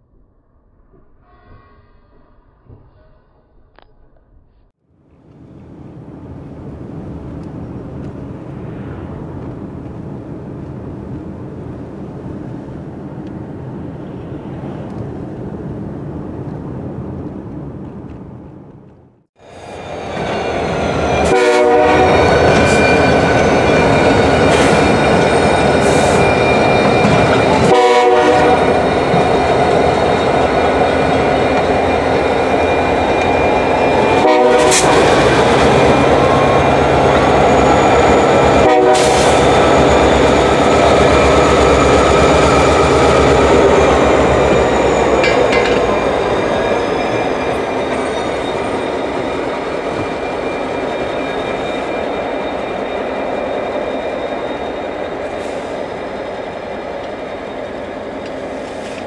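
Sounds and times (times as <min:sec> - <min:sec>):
diesel locomotive engines: 0:04.9 - 0:59.0
train wheels rolling on rails: 0:05.0 - 0:59.0.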